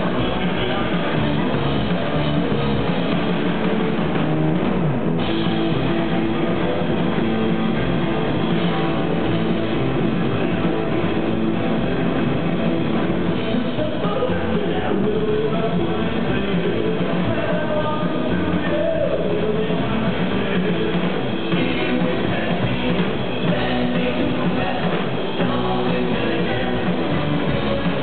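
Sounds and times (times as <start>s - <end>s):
drum kit beat: 0.0s - 28.0s
electric guitar: 0.0s - 28.0s
upright double bass: 0.0s - 28.0s.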